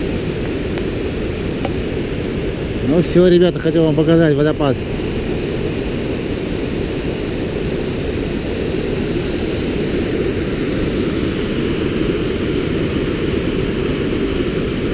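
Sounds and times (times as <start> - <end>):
white water rushing over rocks: 0.0 - 14.9.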